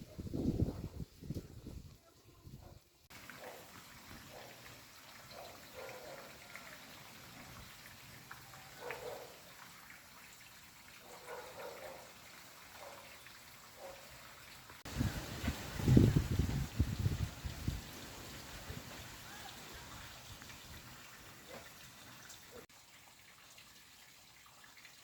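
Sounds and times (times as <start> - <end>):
faint trickling water: 0.1 - 25.0
soft water drips: 3.1 - 15.9, 16.8 - 25.0.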